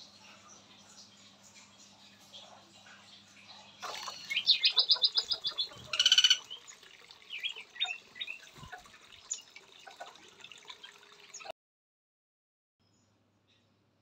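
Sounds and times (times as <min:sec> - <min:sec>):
songbirds chirping: 0:00.0 - 0:11.5.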